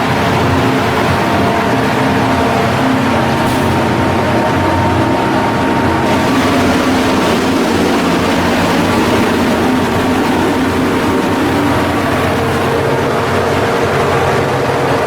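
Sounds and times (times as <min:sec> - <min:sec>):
large diesel engine droning: 0:00.0 - 0:15.0.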